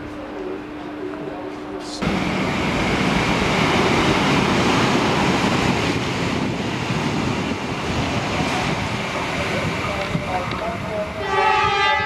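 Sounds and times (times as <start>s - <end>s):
train passing at speed: 0.2s - 12.0s.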